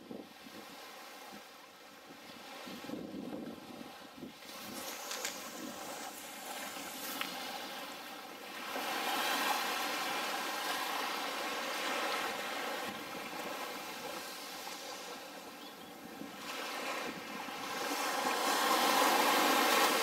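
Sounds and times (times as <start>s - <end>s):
small waves washing on sand: 0.0s - 20.0s.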